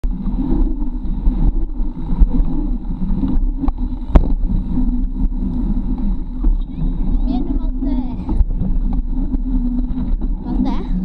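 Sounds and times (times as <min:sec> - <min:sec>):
bike tyres rumbling on asphalt: 0:00.0 - 0:11.0.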